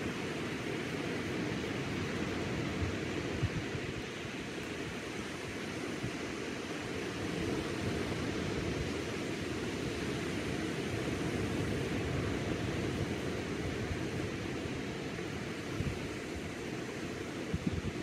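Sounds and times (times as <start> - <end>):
surf washing up beach: 0.0 - 18.0.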